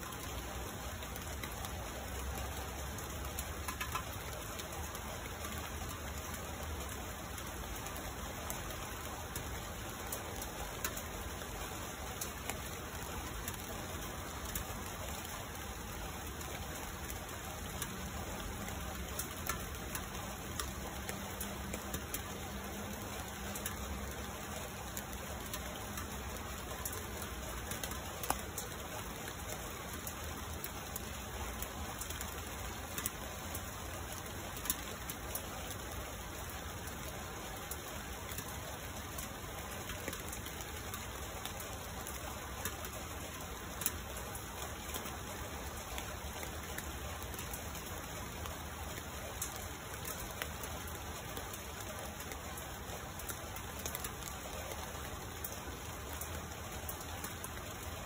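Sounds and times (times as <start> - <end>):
rain on tree foliage: 0.0 - 58.0
raindrops ticking close by: 0.0 - 58.0.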